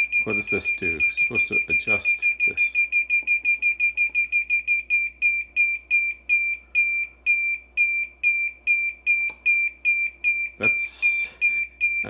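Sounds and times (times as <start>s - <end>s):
high-pitched continuity beeps: 0.0s - 12.0s.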